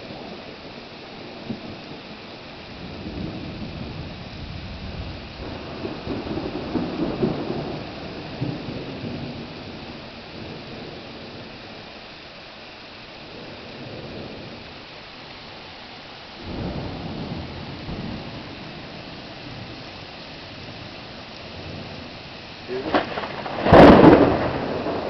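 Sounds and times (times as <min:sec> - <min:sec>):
thunder rumbling: 0:00.0 - 0:15.6, 0:16.2 - 0:25.0
heavy rain falling: 0:00.0 - 0:25.0.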